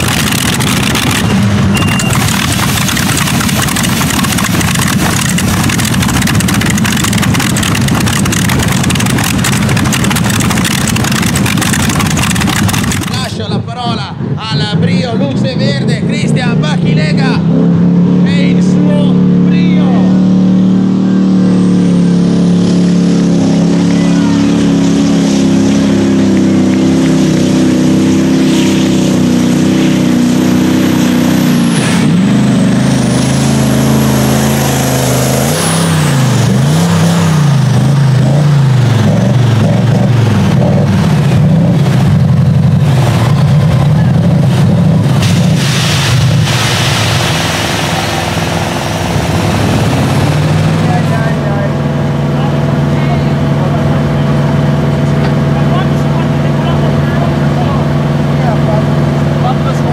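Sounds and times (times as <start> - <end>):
diesel truck engine labouring: 0.0 - 59.9.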